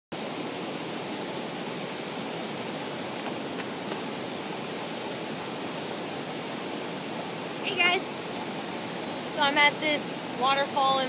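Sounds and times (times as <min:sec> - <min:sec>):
waterfall rushing: 0:00.2 - 0:11.0.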